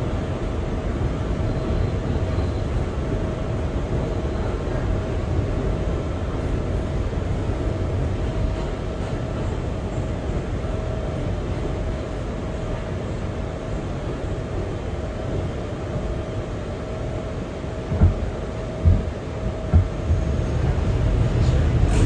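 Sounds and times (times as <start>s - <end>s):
faint steady whine: 0.0s - 21.6s
subway car rumble and hum: 0.0s - 22.0s.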